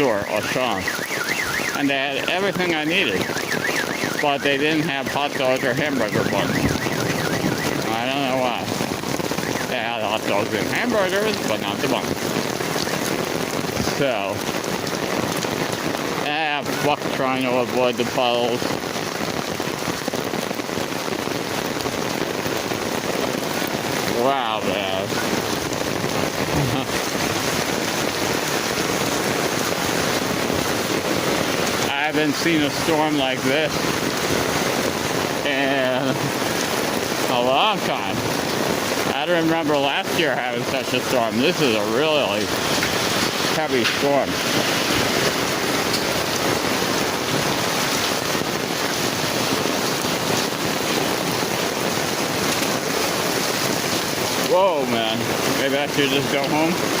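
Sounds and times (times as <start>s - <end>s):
heavy rain on an umbrella: 0.0s - 57.0s.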